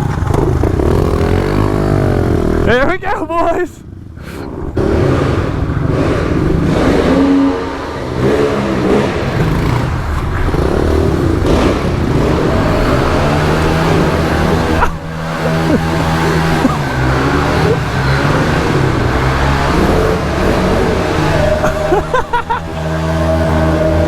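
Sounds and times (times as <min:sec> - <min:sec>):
pit bike engines revving: 0:00.0 - 0:24.0.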